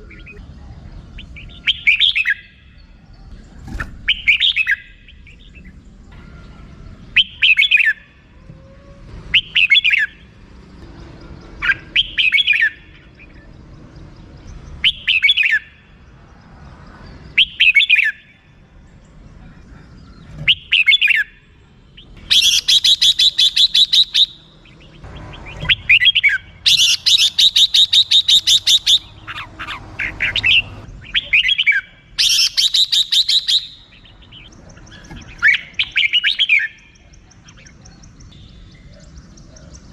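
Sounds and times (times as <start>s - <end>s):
bird call notes: 1.2s - 3.0s, 4.0s - 10.4s, 11.5s - 13.5s, 14.8s - 16.0s, 17.3s - 18.4s, 20.0s - 39.9s.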